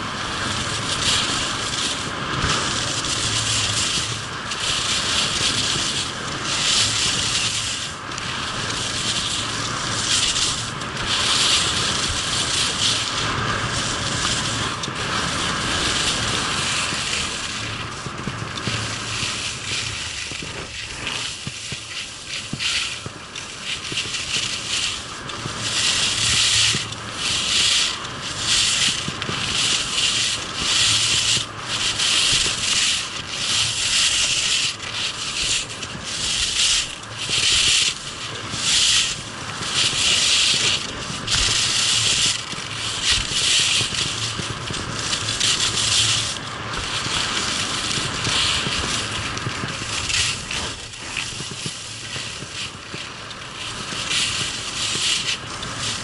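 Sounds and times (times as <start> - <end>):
skis scraping over packed snow: 0.0 - 56.0.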